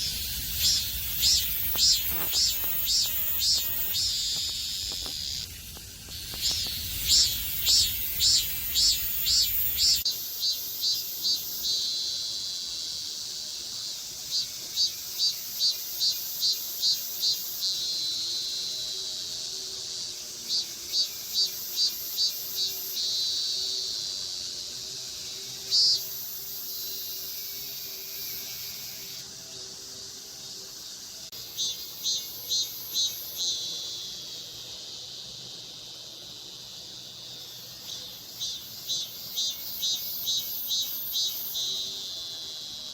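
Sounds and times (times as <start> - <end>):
cicada high buzzing: 0.0 - 42.9
cicada pulsed calls: 0.0 - 42.9.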